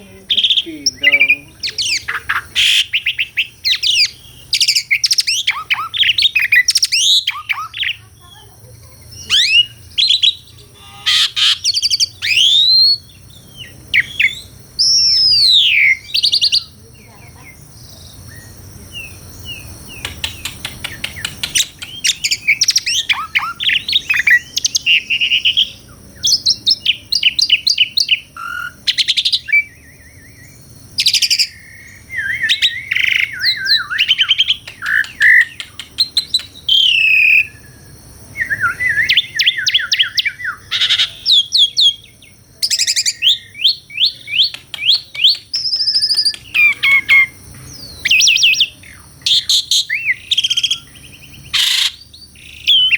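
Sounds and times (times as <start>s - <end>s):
starling singing: 0.0s - 52.9s.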